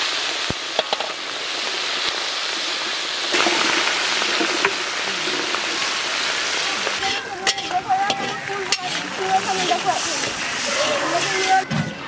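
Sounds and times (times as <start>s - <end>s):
prawns sizzling in oil: 0.0s - 11.7s.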